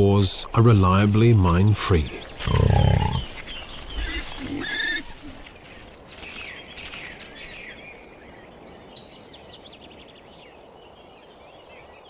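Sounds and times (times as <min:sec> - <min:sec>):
birds chirping and calling: 0:00.0 - 0:12.0
natural ambience: 0:00.0 - 0:12.0.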